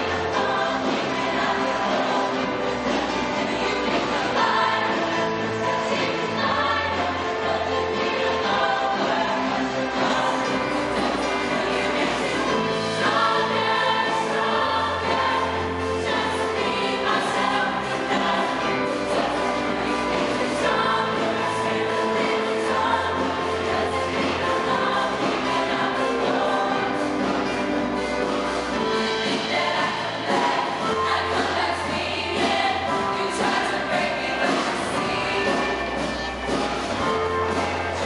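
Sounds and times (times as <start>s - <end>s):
choir singing in harmony: 0.0s - 38.0s.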